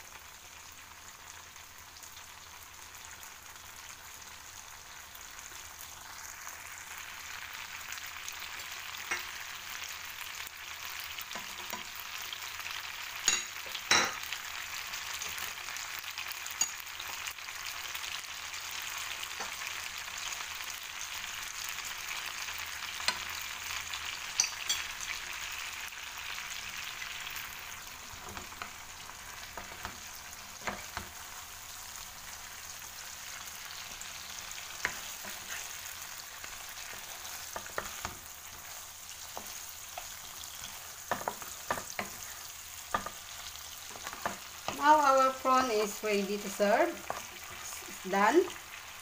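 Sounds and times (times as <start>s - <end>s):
food sizzling in a wok: 0.0s - 49.0s.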